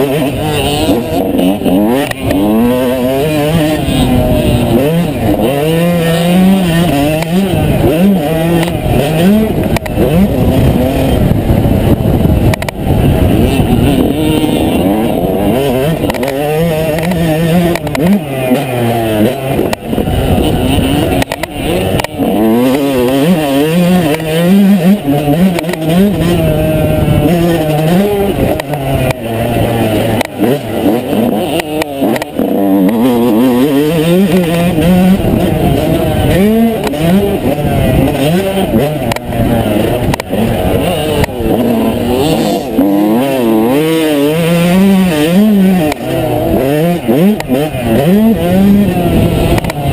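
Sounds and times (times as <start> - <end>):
two-stroke motocross bike engine: 0.0 - 49.9.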